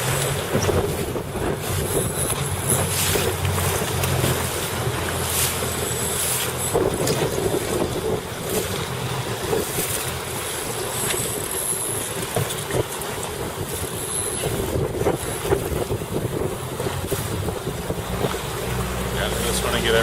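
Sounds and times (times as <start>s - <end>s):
water splashing around boat: 0.0s - 20.0s
wind buffeting microphone: 0.0s - 20.0s.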